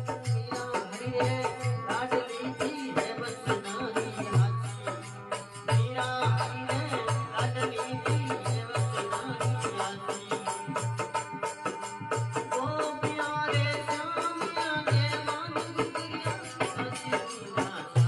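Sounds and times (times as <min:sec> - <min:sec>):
fast rattling percussion: 0:00.0 - 0:18.0.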